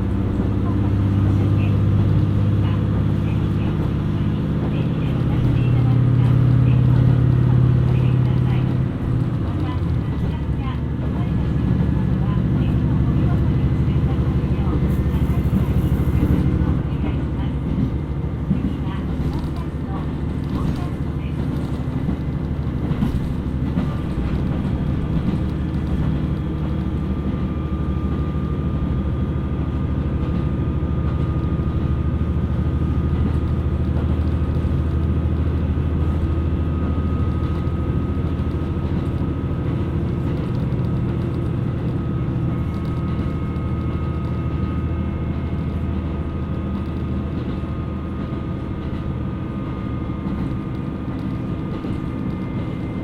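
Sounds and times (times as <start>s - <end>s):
railcar engine and wheels rumble: 0.0s - 53.0s.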